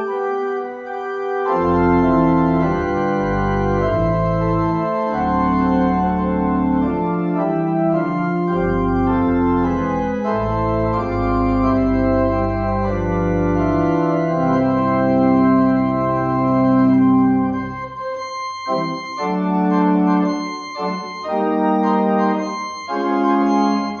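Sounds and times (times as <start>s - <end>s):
organ playing sustained chords: 0.0s - 24.0s.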